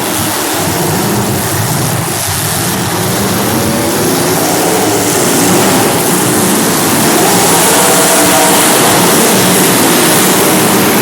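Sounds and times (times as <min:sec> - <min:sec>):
car engines revving loudly: 0:00.0 - 0:11.0.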